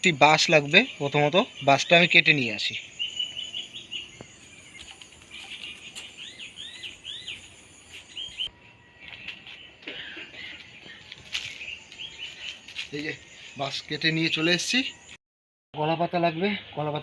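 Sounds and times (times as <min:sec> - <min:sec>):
birds chirping: 0:00.0 - 0:15.2
whistled bird notes: 0:00.1 - 0:15.2.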